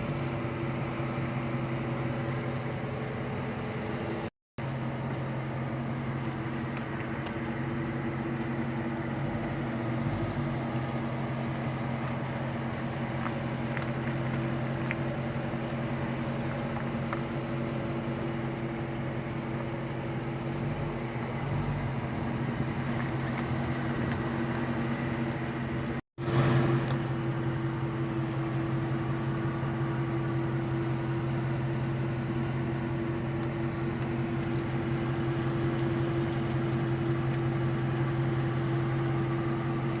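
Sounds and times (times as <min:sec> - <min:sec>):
car engine running: 0:00.0 - 0:40.0.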